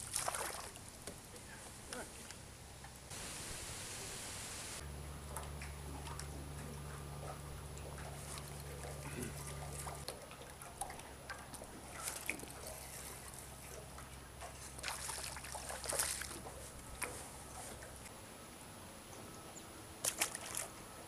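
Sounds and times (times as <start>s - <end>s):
water splashing: 0.0s - 2.1s, 3.1s - 18.1s, 20.0s - 20.8s.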